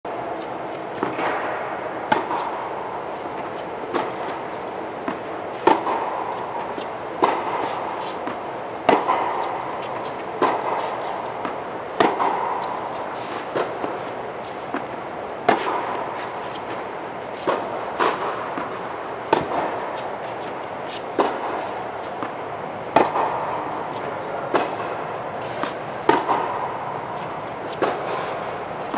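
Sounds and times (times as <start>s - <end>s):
steady background hum: 0.1s - 28.9s
tennis ball bounces: 0.4s - 28.9s
tennis racket strokes popping: 2.1s - 2.6s, 3.2s - 22.3s, 25.4s - 28.9s.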